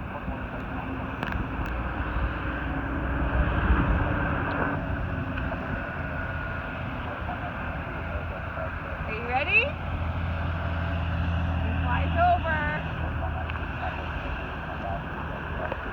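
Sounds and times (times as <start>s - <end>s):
jet plane passing overhead: 0.0s - 15.9s.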